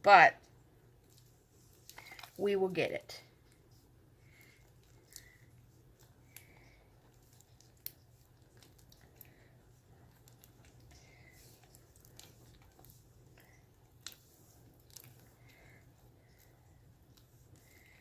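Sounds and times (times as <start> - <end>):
sticky slime squelching: 0.9 - 18.0.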